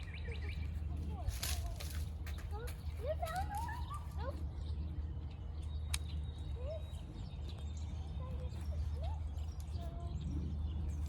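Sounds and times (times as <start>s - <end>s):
rising chirp-like calls: 0.0s - 1.0s, 2.2s - 11.0s.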